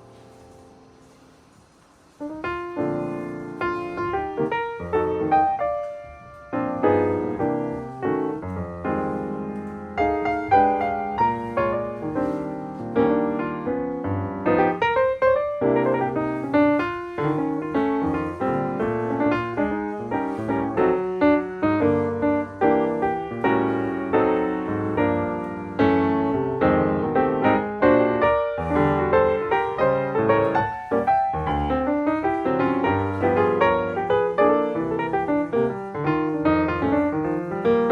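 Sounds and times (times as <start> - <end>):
background piano music: 0.0 - 37.9.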